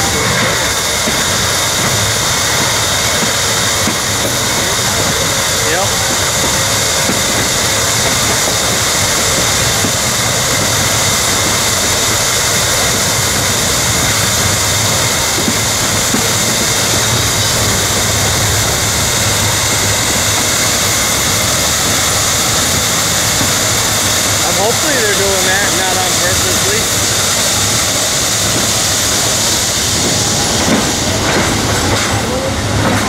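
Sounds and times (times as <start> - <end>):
steel train wheels on rails: 0.0 - 33.0.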